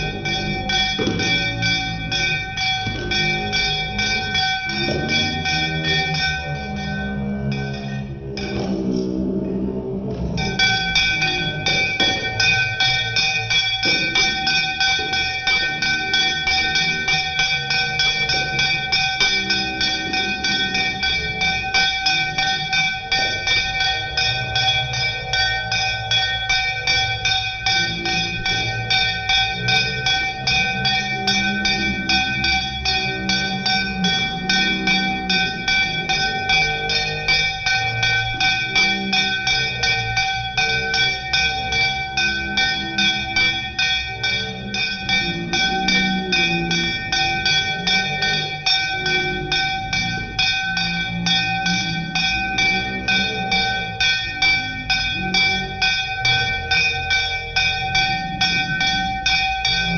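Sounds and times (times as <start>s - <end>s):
metal bell ringing rapidly: 0.0s - 9.0s, 10.2s - 59.9s.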